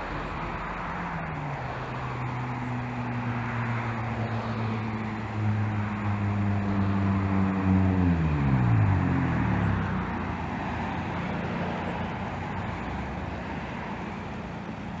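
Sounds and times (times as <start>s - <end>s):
loud car exhaust driving past: 0.0s - 15.0s
road noise: 0.0s - 15.0s.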